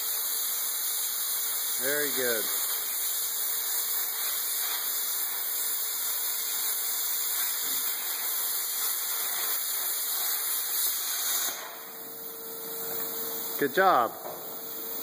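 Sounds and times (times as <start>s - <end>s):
plasma cutter hissing: 0.0s - 15.0s.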